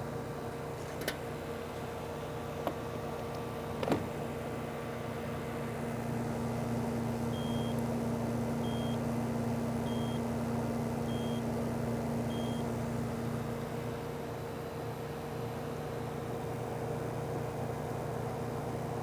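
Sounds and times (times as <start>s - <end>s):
refrigeration equipment humming: 1.3s - 16.7s.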